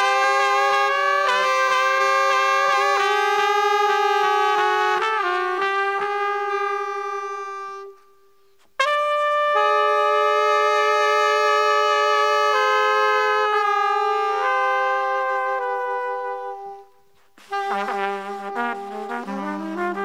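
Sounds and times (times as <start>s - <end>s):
saxophone holding long notes: 0.0s - 20.0s
trumpet holding long notes: 0.0s - 20.0s.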